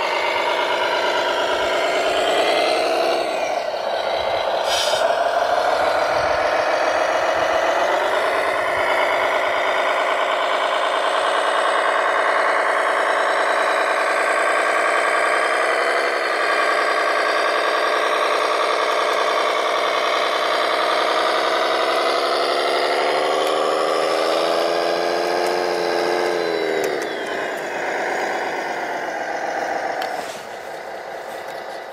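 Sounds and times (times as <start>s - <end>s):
model machine engine running: 0.0s - 31.9s.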